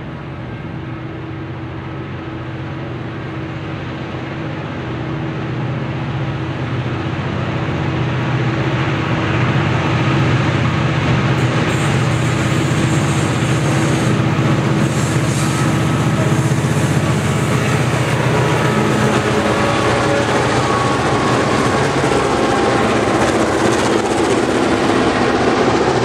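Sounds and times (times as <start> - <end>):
diesel locomotives roaring: 0.0 - 26.0.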